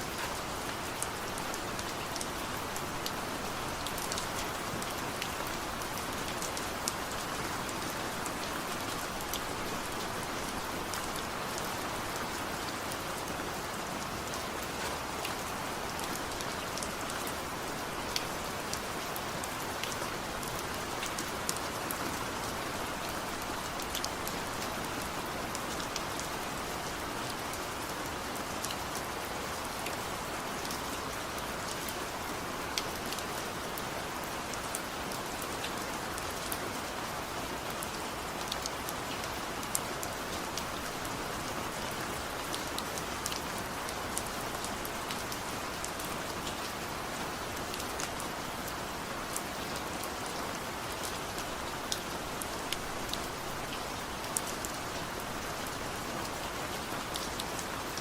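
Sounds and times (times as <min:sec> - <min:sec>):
gentle rain: 0:00.0 - 0:58.0
raindrops ticking on a surface: 0:00.1 - 0:58.0.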